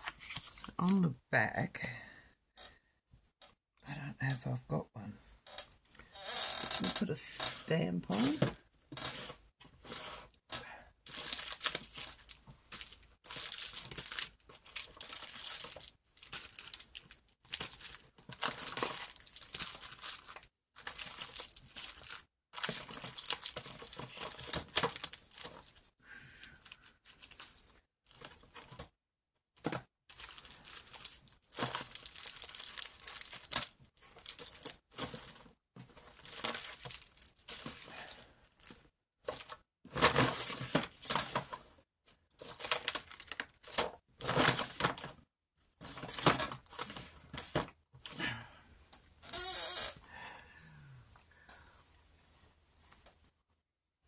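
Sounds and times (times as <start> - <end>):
crinkling and rustling materials: 0.0 - 1.2, 5.4 - 29.0, 29.6 - 48.2.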